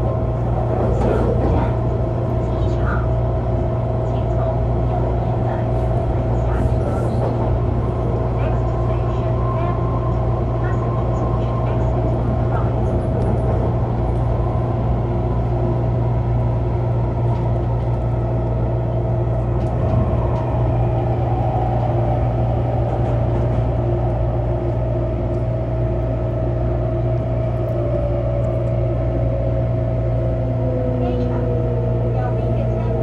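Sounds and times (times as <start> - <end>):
train interior low rumble: 0.0 - 33.0.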